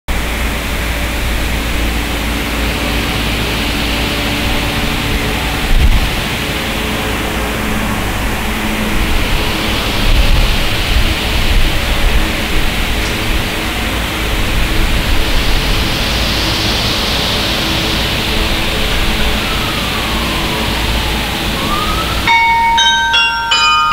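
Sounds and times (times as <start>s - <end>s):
steady rushing noise: 0.1s - 23.9s.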